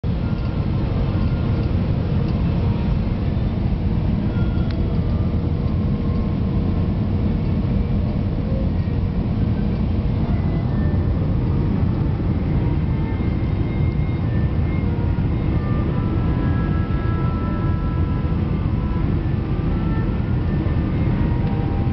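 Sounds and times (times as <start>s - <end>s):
airplane cabin roar: 0.0s - 21.9s.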